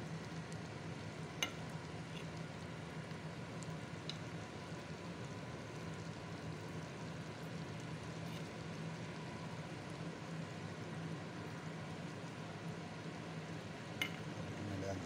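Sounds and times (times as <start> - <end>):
food sizzling and bubbling: 0.0 - 15.0
low steady hum: 0.0 - 15.0.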